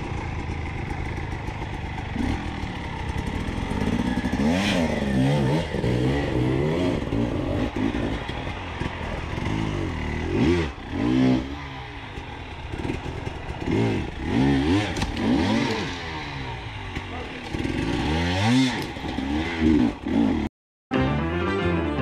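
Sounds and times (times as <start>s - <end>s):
dirt bike engines revving: 0.0s - 20.5s.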